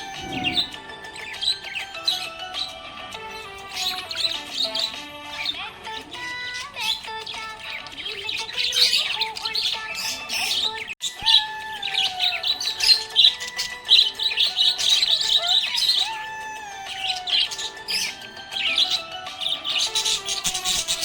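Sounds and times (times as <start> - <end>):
background music with gliding tones: 0.0 - 21.0
budgerigars chattering: 0.0 - 21.0.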